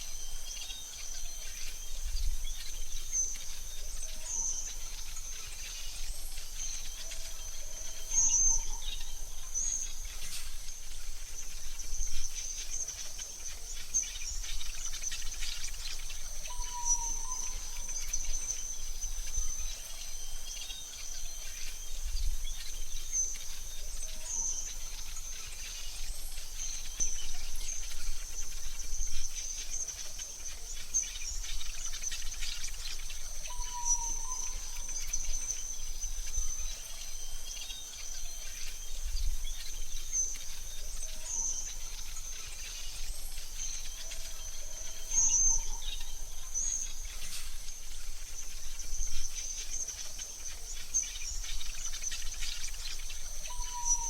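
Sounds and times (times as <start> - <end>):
bird chirps: 0.0 - 54.0
high insect drone: 0.0 - 54.0
low bird calls: 0.0 - 54.0
soft background hiss: 0.0 - 54.0.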